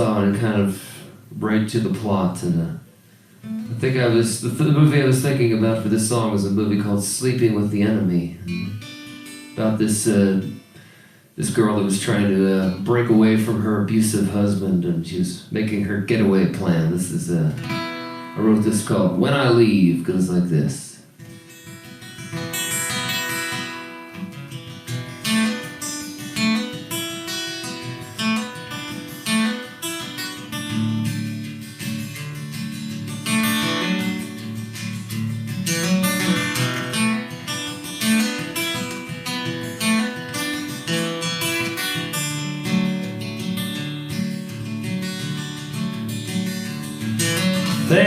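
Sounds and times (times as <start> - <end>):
acoustic guitar strumming: 3.4 - 14.3, 16.3 - 19.4, 21.1 - 48.0.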